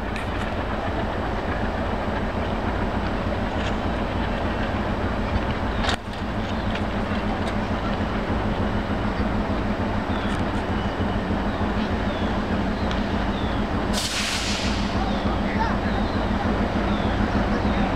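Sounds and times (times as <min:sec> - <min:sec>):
diesel locomotive engine rumble: 0:00.0 - 0:17.9.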